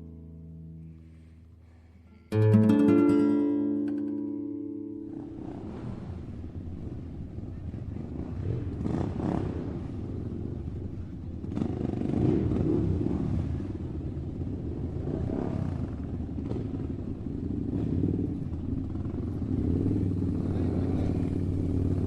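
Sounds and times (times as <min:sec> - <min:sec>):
motorcycle engine running: 0:03.6 - 0:22.0.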